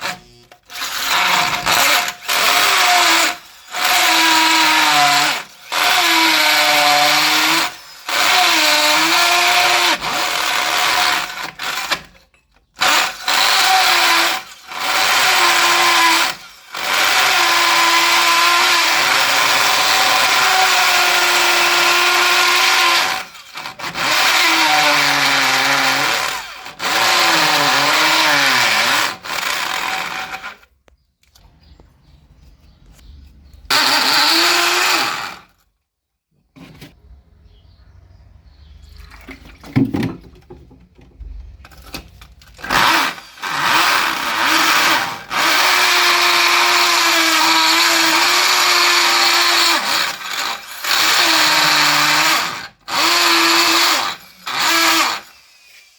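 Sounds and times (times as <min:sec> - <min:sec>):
electric drill drilling into concrete: 0:00.0 - 0:12.2, 0:12.8 - 0:30.7, 0:33.7 - 0:35.6, 0:42.6 - 0:55.9.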